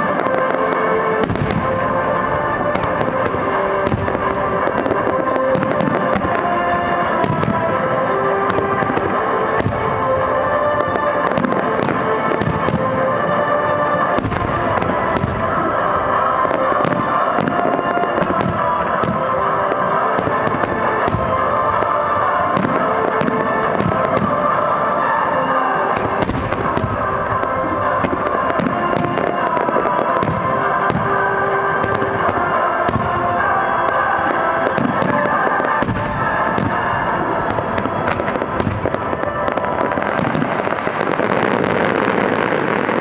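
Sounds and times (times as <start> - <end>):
music playing: 0.0 - 43.0.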